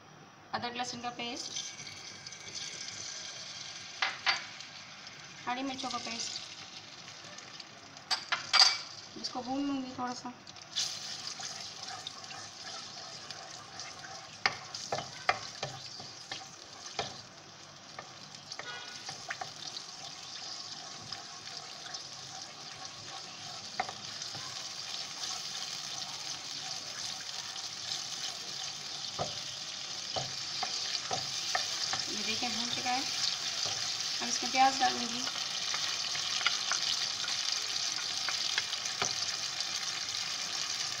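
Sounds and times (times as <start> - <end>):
paste sizzling in hot oil: 1.4 - 41.0.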